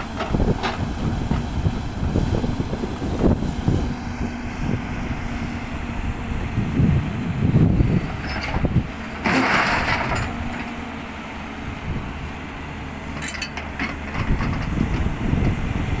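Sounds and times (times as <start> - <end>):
heavy machinery engine running: 0.0 - 16.0.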